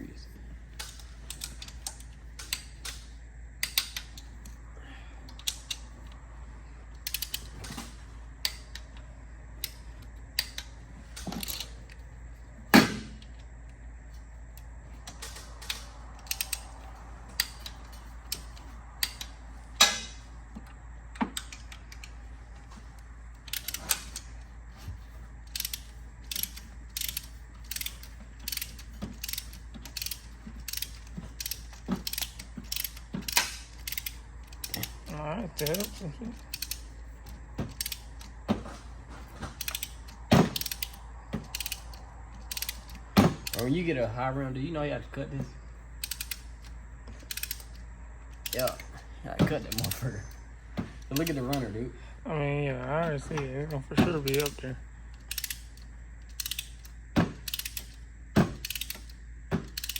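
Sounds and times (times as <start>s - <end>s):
ratchet wrench clicking: 0.8s - 4.6s, 5.3s - 6.2s, 6.9s - 9.0s, 9.6s - 12.0s, 14.2s - 43.9s, 46.0s - 48.9s, 49.6s - 51.7s, 54.0s - 59.9s.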